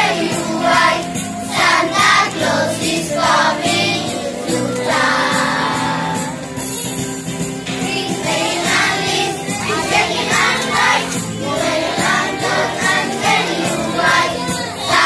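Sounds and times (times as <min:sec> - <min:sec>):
children singing in unison: 0:00.0 - 0:06.8, 0:07.7 - 0:15.0
instrumental accompaniment: 0:00.0 - 0:15.0.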